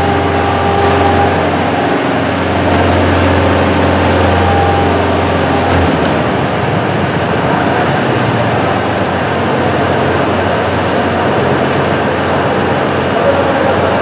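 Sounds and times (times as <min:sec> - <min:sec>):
electric hoist trolley running: 0:00.0 - 0:14.0.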